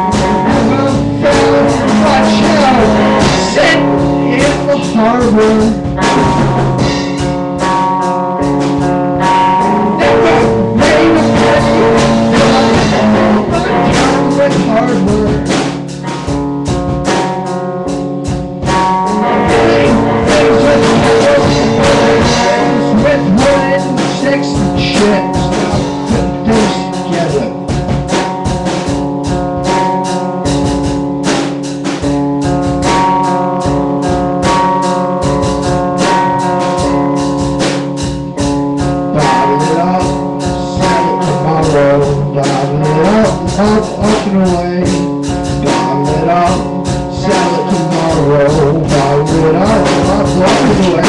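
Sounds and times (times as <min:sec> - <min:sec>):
drum kit steady beat: 0:00.0 - 0:51.0
loud electric guitar: 0:00.0 - 0:51.0.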